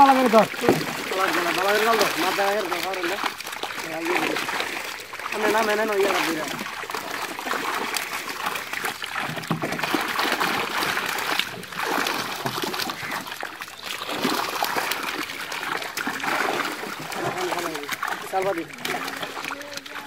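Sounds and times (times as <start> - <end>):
fish thrashing and splashing: 0.0 - 20.0
water sloshing from dragged net: 0.0 - 20.0.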